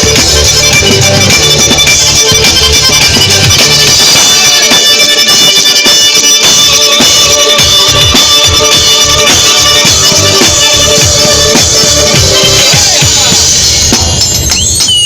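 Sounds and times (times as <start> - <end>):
drum strikes: 0.0 - 15.0
lively folk music over drone: 0.0 - 15.0.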